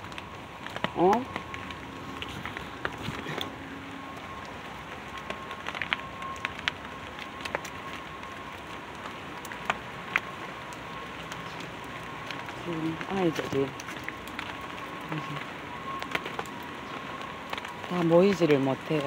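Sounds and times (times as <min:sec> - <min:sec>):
heavy rain falling: 0:00.0 - 0:19.0
raindrops tapping surfaces: 0:00.0 - 0:19.0.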